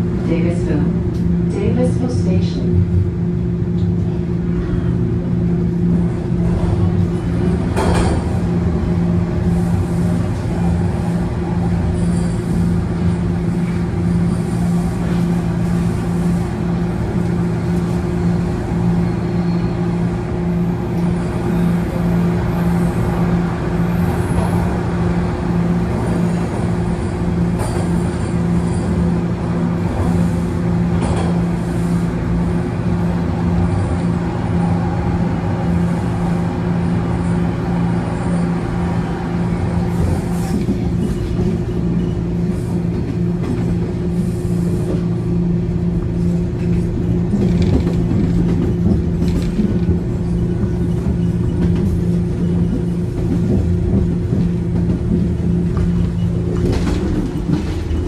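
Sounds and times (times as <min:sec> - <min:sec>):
subway train hum: 0:00.0 - 0:58.0
wheels rumbling on track: 0:00.0 - 0:58.0.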